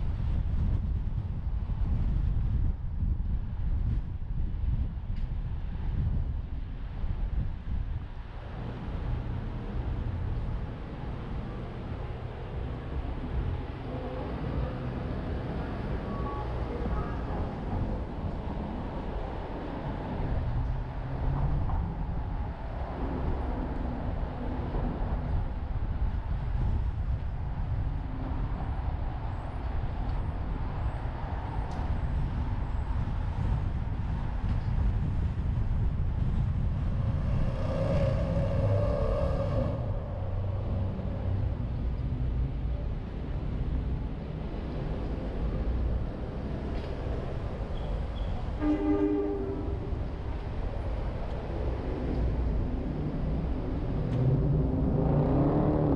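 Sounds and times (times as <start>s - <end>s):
car road and engine noise: 0.0s - 55.9s
surrounding traffic: 0.0s - 55.9s.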